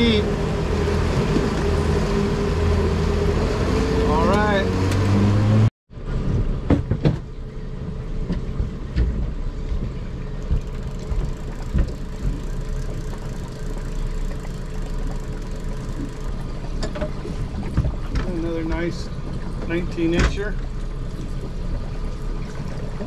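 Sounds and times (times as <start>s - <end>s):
outboard motor humming: 0.0s - 5.7s, 7.2s - 23.0s.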